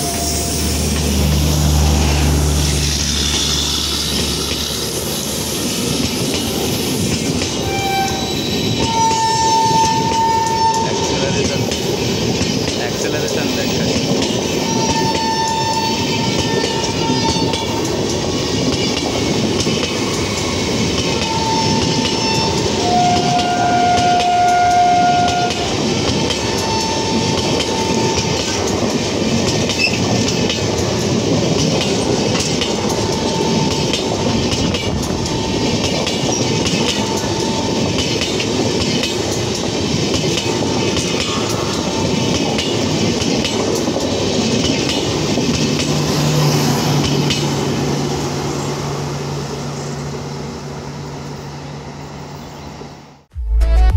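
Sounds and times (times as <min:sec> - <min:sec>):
train wheels clattering on rails: 0:00.0 - 0:48.6.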